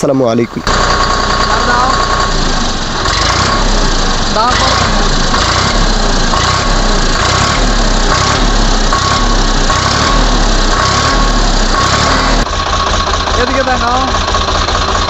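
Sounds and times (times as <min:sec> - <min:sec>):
tractor diesel engine idling: 0:00.1 - 0:15.0.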